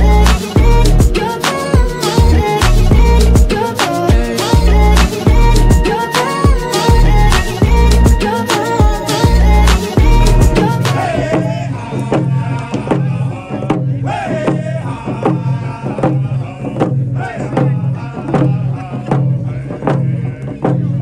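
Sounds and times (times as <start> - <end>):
voices singing: 0.0 - 21.0.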